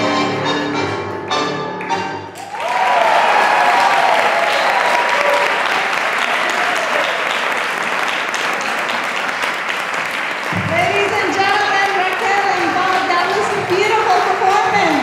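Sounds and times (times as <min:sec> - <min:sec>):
audience applauding: 0:01.8 - 0:15.0.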